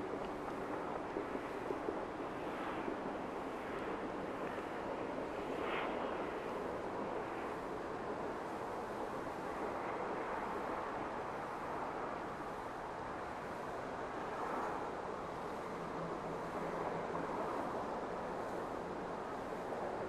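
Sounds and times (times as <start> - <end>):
distant valley ambience: 0.0 - 20.0.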